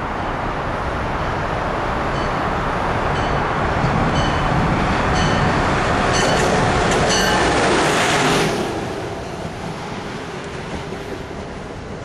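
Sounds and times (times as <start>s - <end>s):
train passing at speed: 0.0s - 12.0s
rail clicks: 2.1s - 12.0s.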